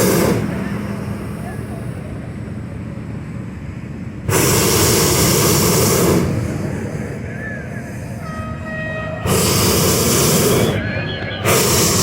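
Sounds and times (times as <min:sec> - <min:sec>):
propane burner blast: 0:00.0 - 0:02.1, 0:04.2 - 0:12.0.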